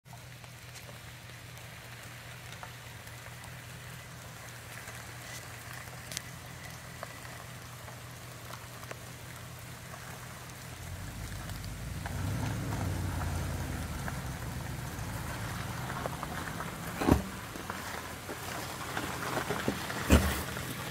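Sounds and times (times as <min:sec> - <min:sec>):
rain pattering on leaves: 0:00.1 - 0:20.9
pickup truck engine humming: 0:00.5 - 0:20.9.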